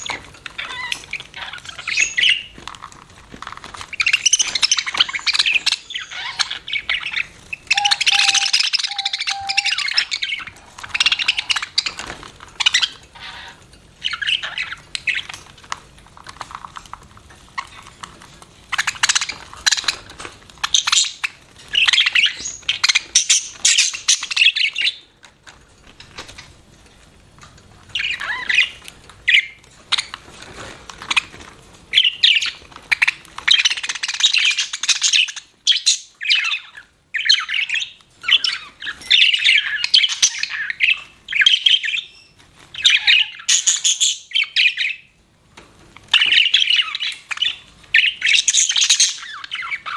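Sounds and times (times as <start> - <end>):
budgerigars chirping and squawking: 0.0 - 2.6, 3.4 - 15.7, 17.5 - 25.5, 27.9 - 45.2, 46.0 - 49.9.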